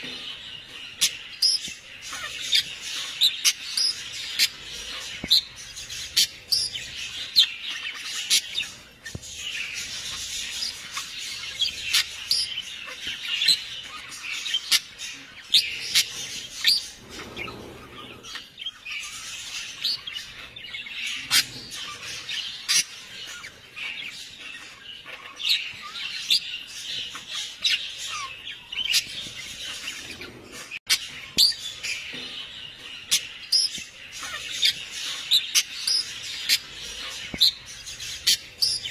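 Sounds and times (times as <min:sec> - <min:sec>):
small animals chirping and squeaking: 0:00.0 - 0:38.9.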